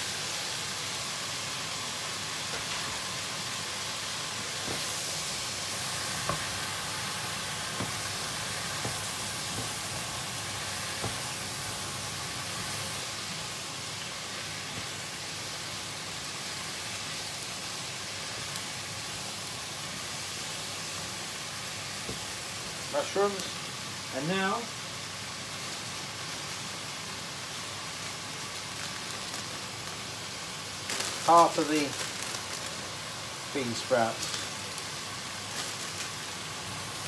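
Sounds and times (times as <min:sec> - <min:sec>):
vegetables sizzling in a pan: 0:00.0 - 0:37.0.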